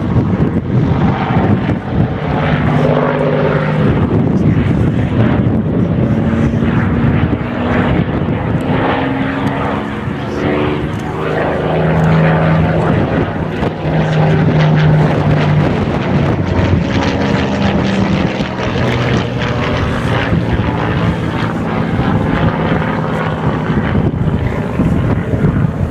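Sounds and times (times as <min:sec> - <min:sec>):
propeller plane flying overhead: 0:00.0 - 0:25.9.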